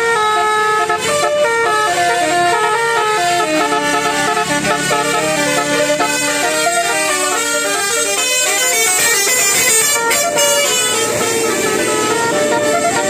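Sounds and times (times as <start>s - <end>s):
musical vehicle horn playing tune: 0.0s - 13.0s.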